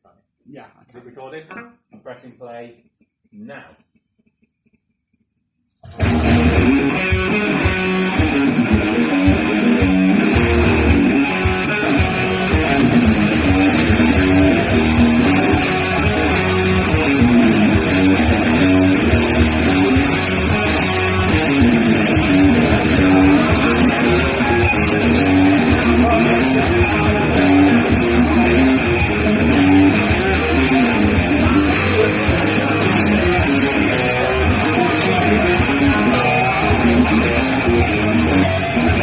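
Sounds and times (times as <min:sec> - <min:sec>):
guitar rock music with bass: 0:05.8 - 0:39.0.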